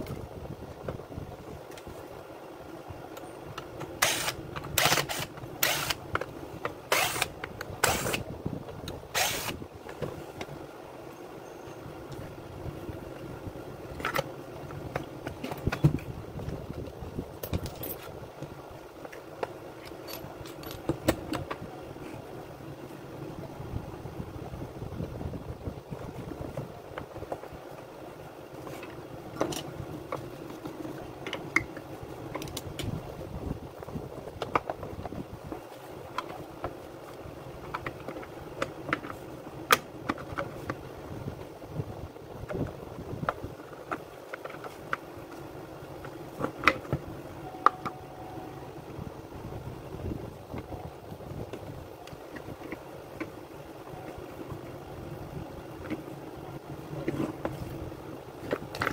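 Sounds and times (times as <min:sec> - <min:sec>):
steady background noise: 0:00.0 - 0:58.9.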